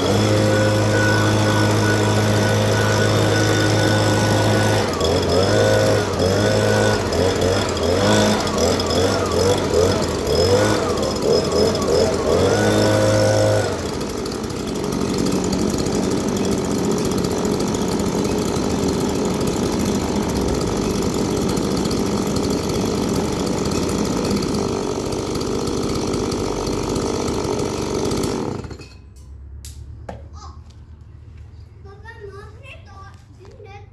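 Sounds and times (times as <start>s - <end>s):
small two-stroke engine running: 0.0s - 29.1s.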